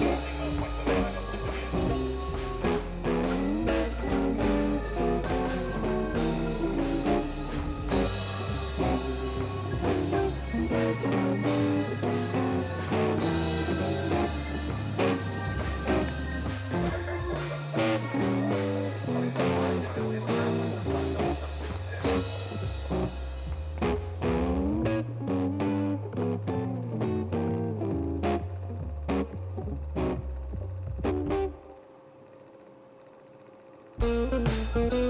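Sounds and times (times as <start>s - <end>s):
blues-rock music: 0.0s - 31.8s, 34.0s - 35.0s.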